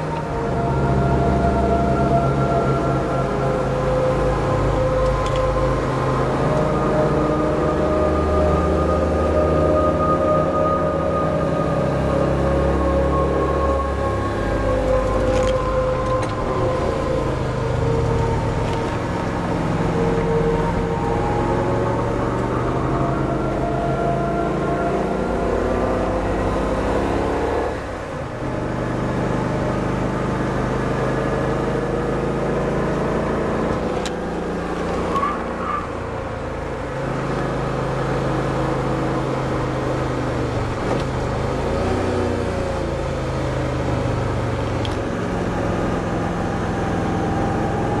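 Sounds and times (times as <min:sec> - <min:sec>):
car engine under load: 0:00.0 - 0:48.0.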